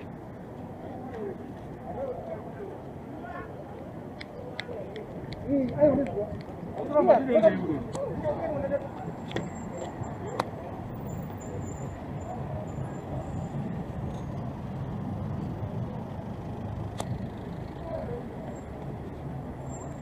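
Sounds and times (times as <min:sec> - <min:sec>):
faint voices: 0:00.0 - 0:15.0, 0:15.6 - 0:20.0
traffic engine rumble: 0:00.0 - 0:20.0.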